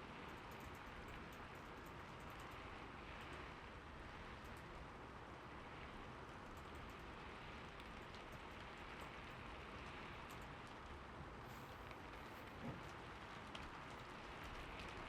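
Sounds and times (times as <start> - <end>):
soft rainfall: 0.0 - 15.0.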